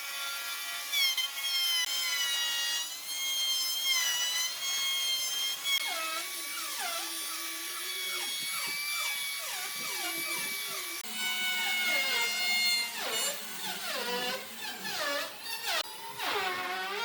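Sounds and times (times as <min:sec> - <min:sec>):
power tool whining into wood: 0:00.0 - 0:17.0.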